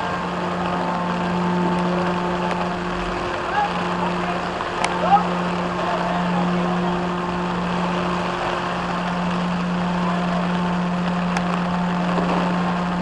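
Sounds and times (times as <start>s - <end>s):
engine running: 0.0s - 13.0s
heavy rain hiss: 0.0s - 13.0s.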